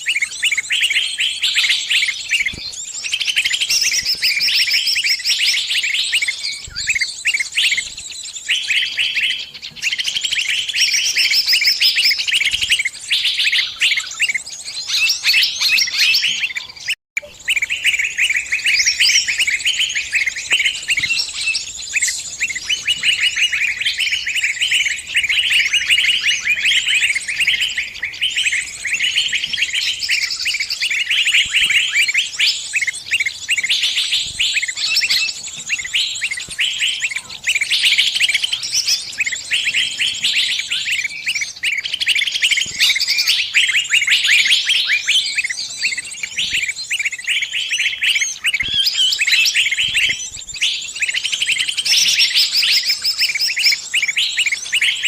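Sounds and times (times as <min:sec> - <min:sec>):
small bird chirping shrilly: 0:00.0 - 0:55.0.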